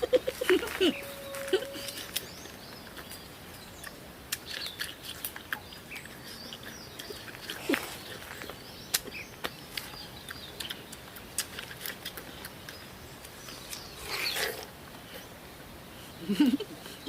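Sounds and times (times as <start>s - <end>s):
people chewing watermelon: 0.0s - 17.0s.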